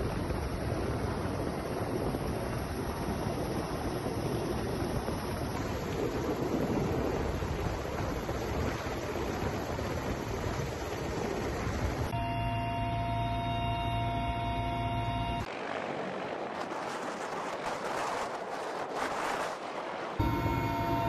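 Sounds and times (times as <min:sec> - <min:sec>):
turbine whine: 0:00.0 - 0:17.8, 0:20.2 - 0:21.0
helicopter engine and rotor drone: 0:00.0 - 0:18.8, 0:20.2 - 0:21.0.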